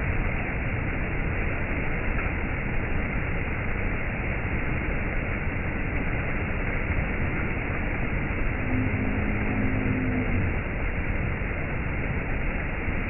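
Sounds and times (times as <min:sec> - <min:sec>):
low steady hum: 0:00.0 - 0:13.0
stream rushing over rocks: 0:00.0 - 0:13.0.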